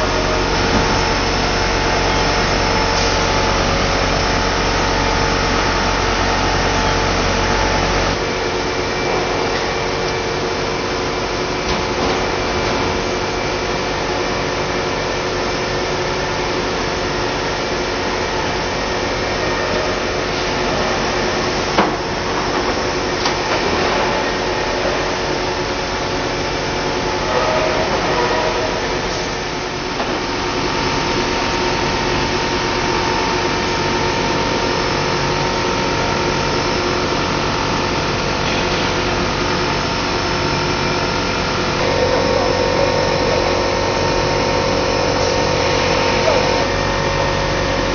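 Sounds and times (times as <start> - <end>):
machine mechanical hum: 0.0 - 47.9.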